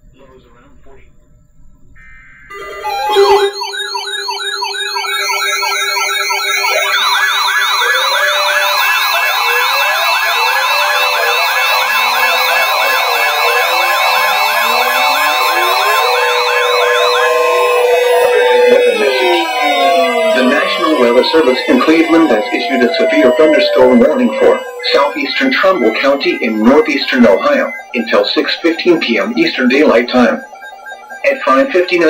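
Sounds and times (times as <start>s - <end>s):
warbling weather radio alarms: 2.0s - 32.0s.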